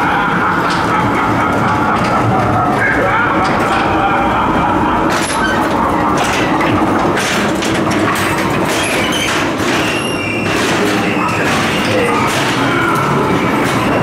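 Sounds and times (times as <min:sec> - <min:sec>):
ride car clattering on track: 0:00.0 - 0:14.0.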